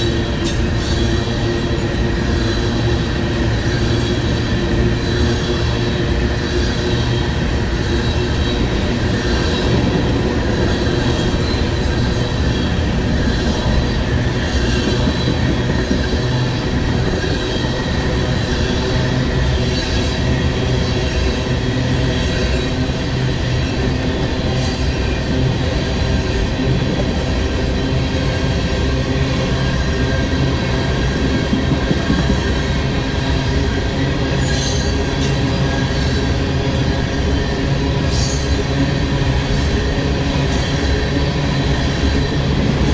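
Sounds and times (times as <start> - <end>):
rail joint clicks: 0.0 - 42.9
train wheels rumbling on rail: 0.0 - 42.9.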